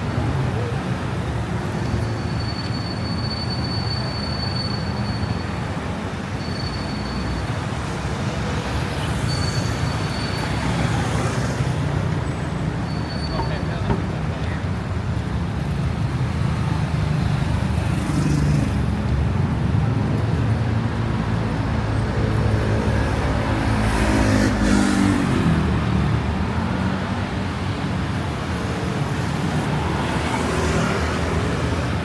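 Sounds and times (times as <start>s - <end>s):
city road traffic rumble: 0.0s - 32.0s.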